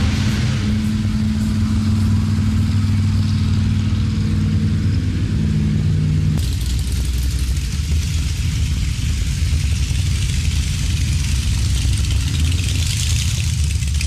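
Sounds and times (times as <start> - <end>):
car engines running low: 0.0 - 14.0.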